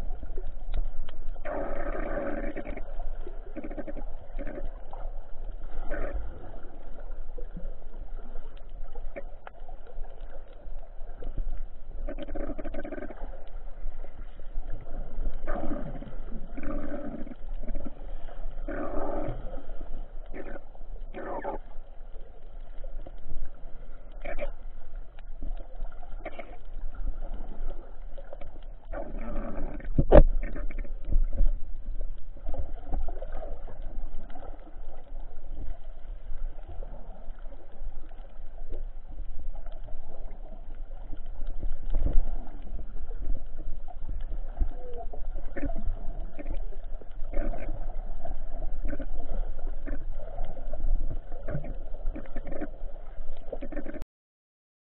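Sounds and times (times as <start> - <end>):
low underwater rumble: 0.0 - 54.0
soft underwater gurgling: 0.0 - 54.0.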